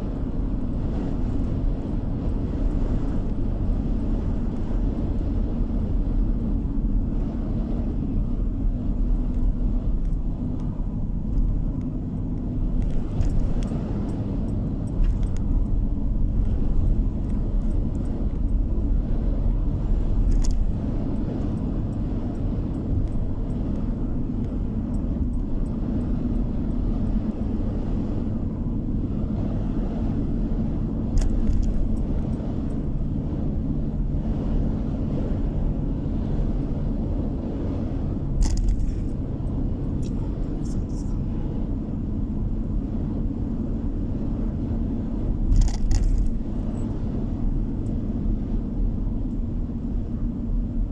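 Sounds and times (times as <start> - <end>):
car interior road rumble: 0.0 - 50.9.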